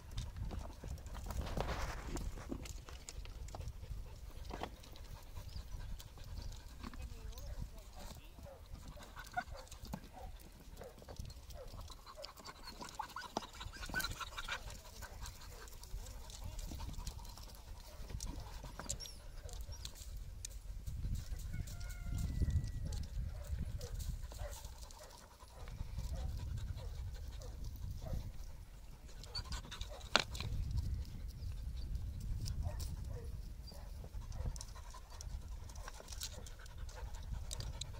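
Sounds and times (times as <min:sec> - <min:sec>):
dogs panting and sniffing: 0:00.0 - 0:37.9.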